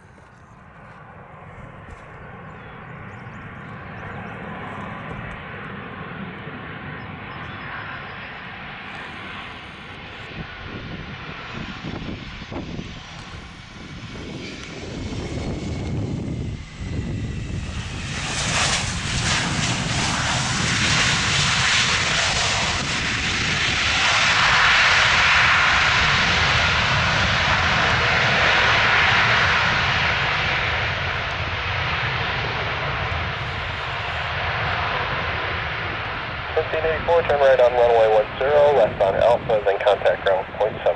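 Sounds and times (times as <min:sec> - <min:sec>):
airliner engines roaring: 0:00.0 - 0:40.9.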